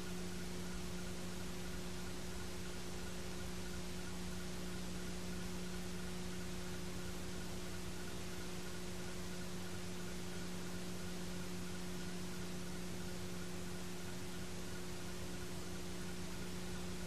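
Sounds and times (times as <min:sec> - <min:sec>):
low even hum: 0:00.0 - 0:17.0.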